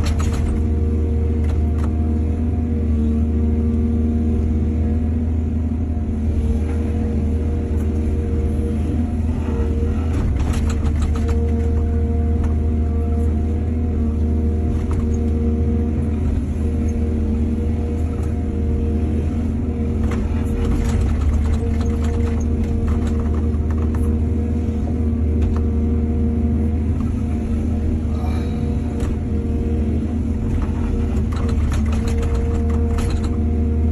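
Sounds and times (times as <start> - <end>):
diesel engine humming: 0.0 - 33.9.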